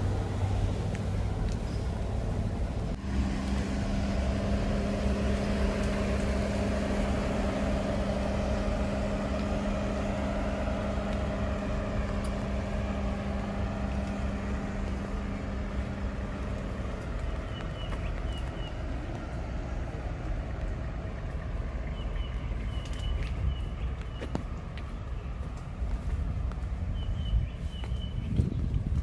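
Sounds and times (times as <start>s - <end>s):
low mechanical hum: 0.0s - 29.0s
low rumble: 0.0s - 29.0s
traffic on wet road: 0.0s - 29.0s.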